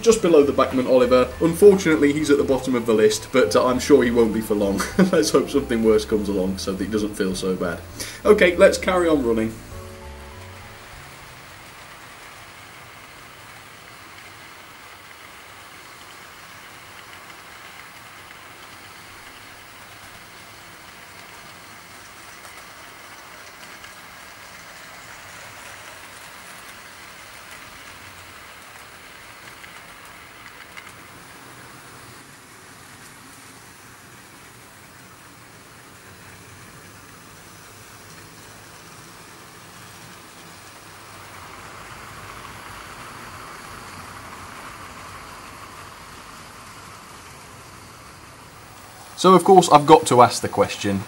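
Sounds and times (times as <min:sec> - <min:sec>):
model train running: 0:00.0 - 0:51.0
wheels clicking over rails: 0:00.0 - 0:51.0.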